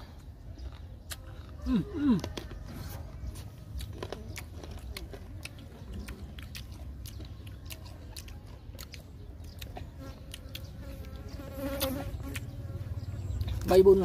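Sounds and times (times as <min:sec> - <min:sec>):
crunchy chewing of mango: 0:00.0 - 0:14.0.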